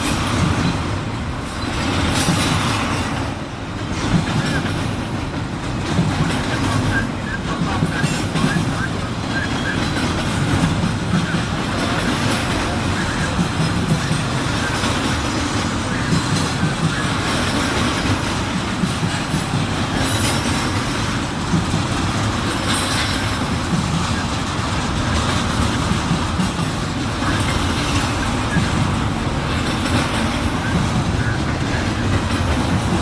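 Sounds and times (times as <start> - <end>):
freight train rumbling past: 0.0 - 33.0
wheels clacking over track: 0.0 - 33.0.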